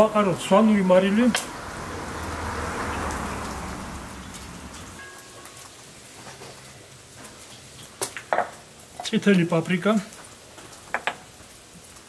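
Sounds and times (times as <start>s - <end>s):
vegetables sizzling in hot oil: 1.4s - 12.0s.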